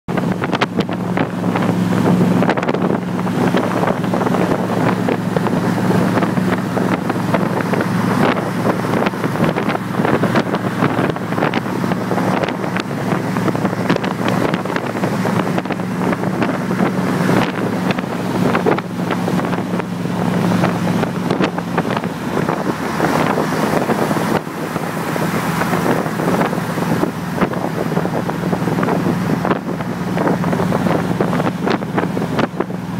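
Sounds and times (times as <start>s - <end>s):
car engine running: 0.1s - 32.9s
wind buffeting microphone: 0.1s - 32.9s.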